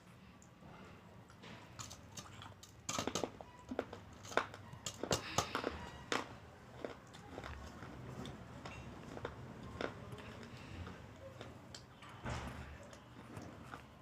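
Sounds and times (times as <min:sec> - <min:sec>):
eating clicks and smacking: 0:01.3 - 0:14.0.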